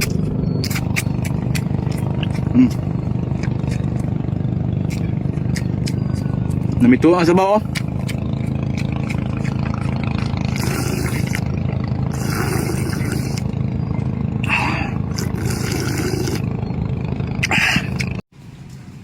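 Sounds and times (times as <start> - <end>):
engine running steadily: 0.0 - 18.8.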